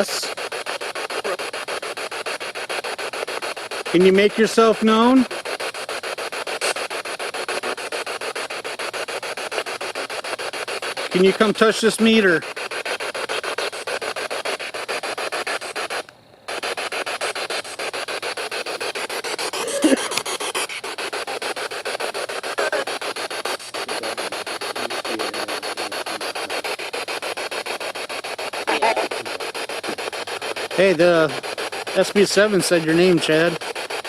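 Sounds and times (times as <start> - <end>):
choppy radio static pulses: 0.0 - 34.0
snatches of radio sound: 0.0 - 34.0.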